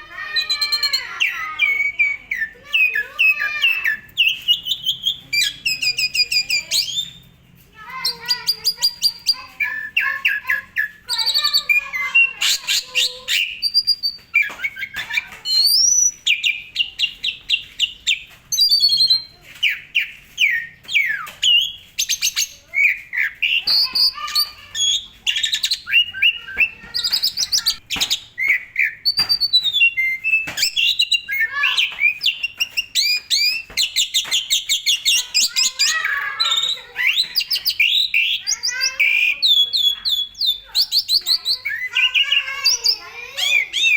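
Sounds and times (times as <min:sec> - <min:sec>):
starling singing varied song: 0:00.0 - 0:43.9.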